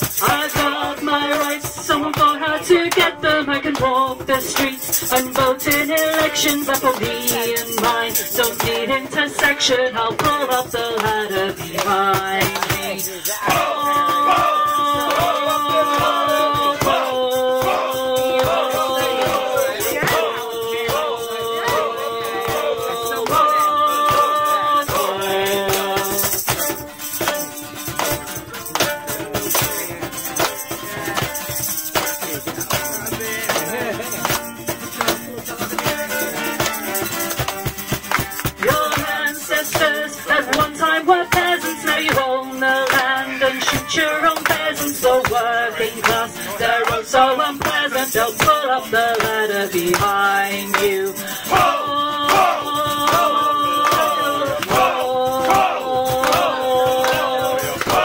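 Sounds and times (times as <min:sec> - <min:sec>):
shaker rattling: 0:00.0 - 0:03.0, 0:03.6 - 0:58.0
folk-punk band playing: 0:00.0 - 0:58.0.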